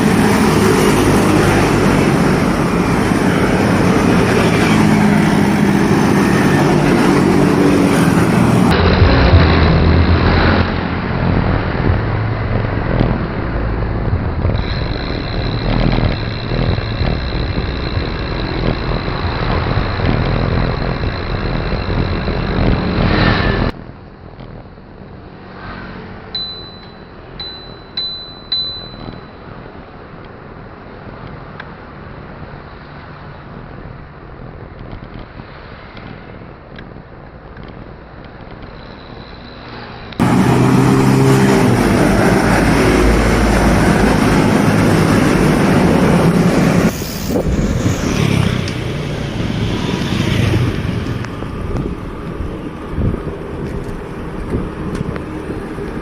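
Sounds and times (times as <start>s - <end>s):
motor traffic: 0.0s - 56.0s
wind and road noise: 0.0s - 56.0s.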